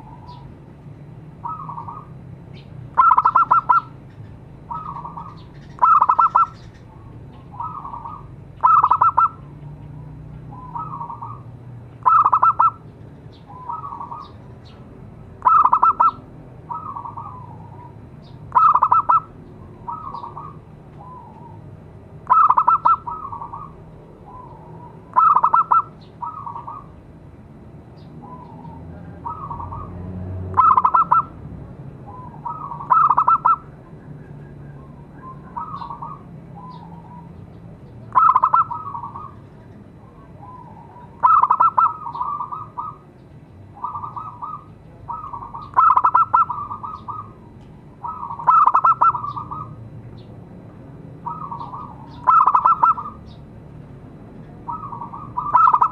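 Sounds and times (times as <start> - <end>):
doves cooing: 0.0 - 0.6, 1.4 - 14.4, 15.4 - 27.0, 28.2 - 31.4, 32.0 - 43.1, 43.7 - 49.9, 51.1 - 53.4, 54.4 - 55.9.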